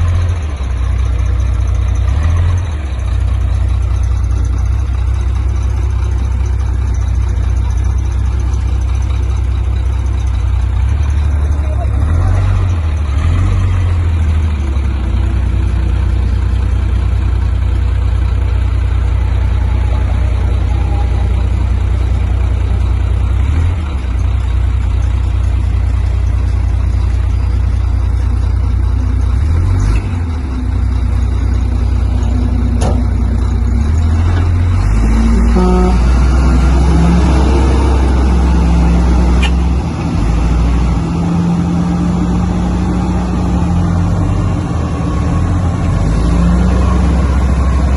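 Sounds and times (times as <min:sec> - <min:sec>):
diesel machinery engine drone: 0:00.0 - 0:47.9.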